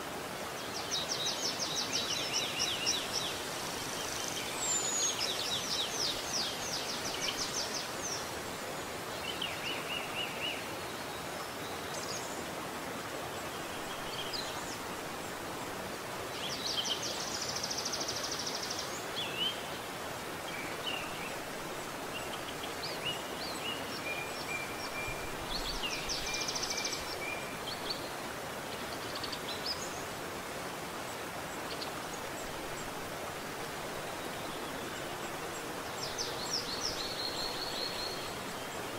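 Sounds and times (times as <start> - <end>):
stream running over rocks: 0.0 - 38.9
songbirds singing: 0.4 - 38.9.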